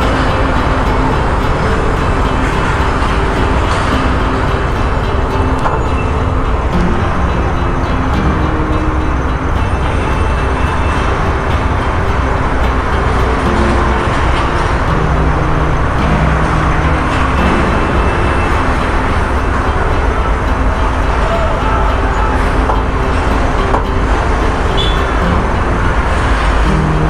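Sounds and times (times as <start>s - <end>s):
road noise: 0.0s - 27.0s
truck diesel engine rumbling: 0.0s - 27.0s.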